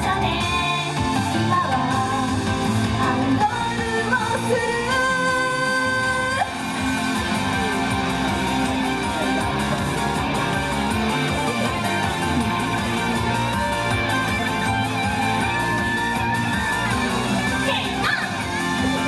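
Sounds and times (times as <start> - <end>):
guitar-driven band backing: 0.0 - 19.0
pop song with sung vocals: 0.0 - 19.0.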